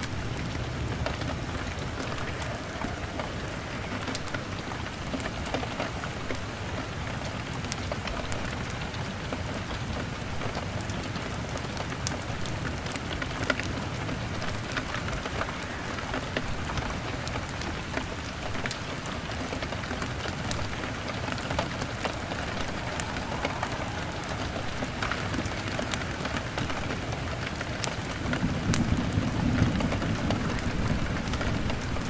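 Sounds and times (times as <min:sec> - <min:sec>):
fire crackling: 0:00.0 - 0:32.0
rain pattering on a window: 0:00.0 - 0:32.0.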